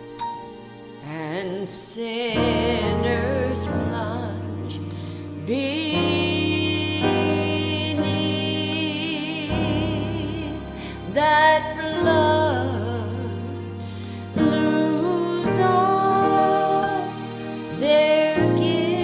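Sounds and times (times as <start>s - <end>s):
woman singing a hymn: 1.0s - 19.0s
sustained instrumental chords: 2.2s - 19.0s.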